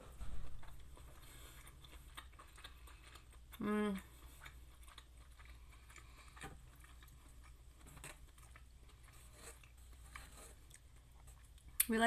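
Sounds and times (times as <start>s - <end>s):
person chewing food: 0.0s - 11.9s.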